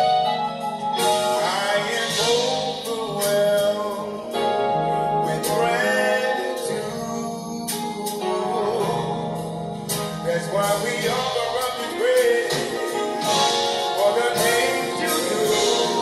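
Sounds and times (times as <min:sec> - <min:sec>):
instrumental backing music: 0:00.0 - 0:16.0
man singing gospel song: 0:01.0 - 0:16.0.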